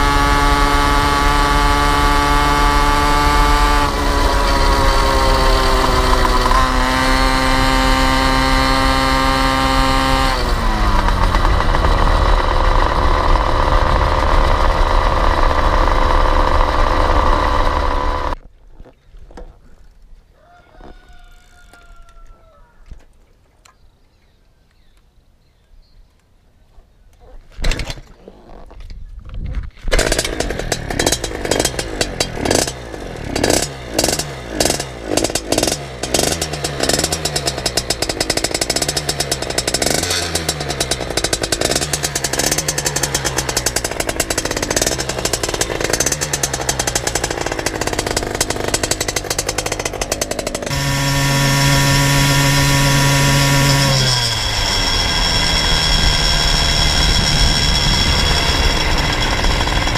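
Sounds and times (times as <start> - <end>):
two-stroke engine revving and idling: 0.0 - 18.4, 29.9 - 59.9.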